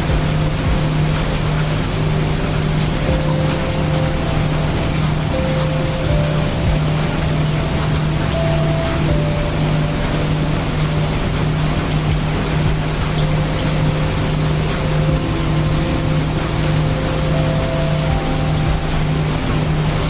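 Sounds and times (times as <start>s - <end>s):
deep hum: 0.0s - 20.0s
heavy rain: 0.0s - 20.0s.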